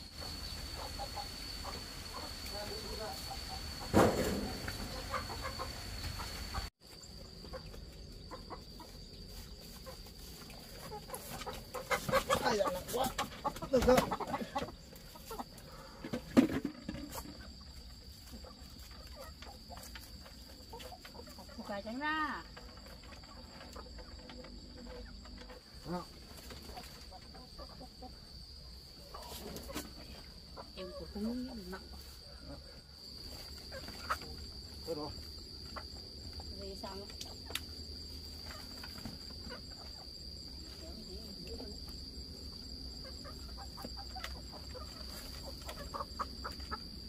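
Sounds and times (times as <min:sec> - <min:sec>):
chickens clucking: 0:00.0 - 0:47.0
insects high-pitched calling: 0:00.0 - 0:47.0.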